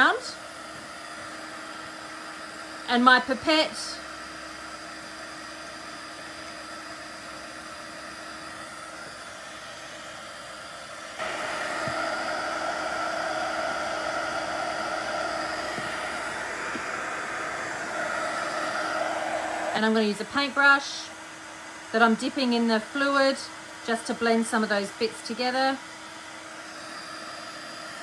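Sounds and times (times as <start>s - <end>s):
faint motor hum: 0.0s - 28.0s
heat gun blowing air: 0.0s - 28.0s.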